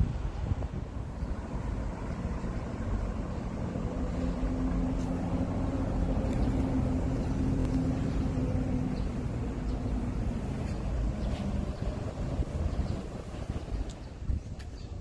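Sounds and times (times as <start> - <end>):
low outdoor rumble: 0.0 - 15.0
low engine drone: 1.0 - 14.1.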